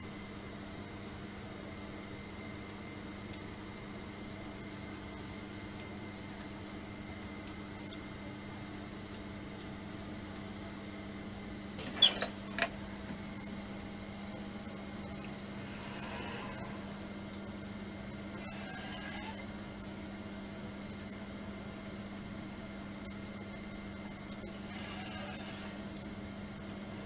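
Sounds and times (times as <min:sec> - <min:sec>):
soldering machine humming: 0:00.0 - 0:27.0.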